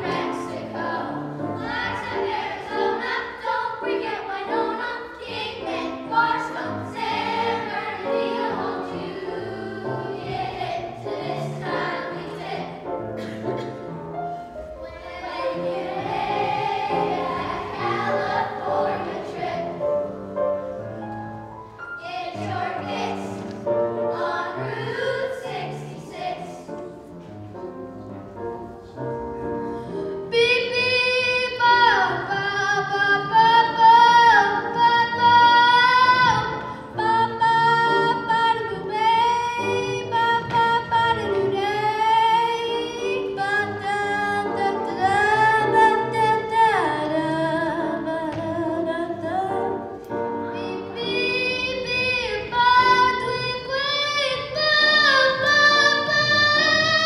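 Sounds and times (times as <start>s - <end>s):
choir singing: 0.0s - 13.4s, 14.6s - 20.9s, 21.8s - 27.0s, 31.5s - 57.0s
instrumental accompaniment: 0.0s - 57.0s.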